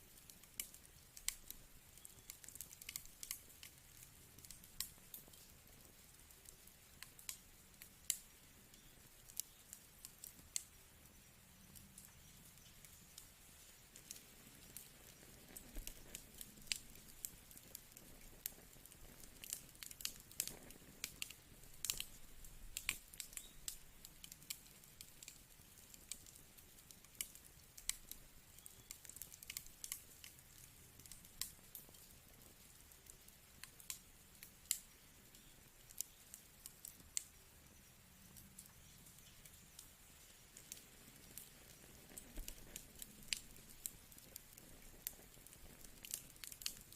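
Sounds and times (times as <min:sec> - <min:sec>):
wood fire pops and snaps: 0:00.0 - 0:37.6, 0:38.3 - 0:46.9
fire low hiss: 0:00.0 - 0:46.9.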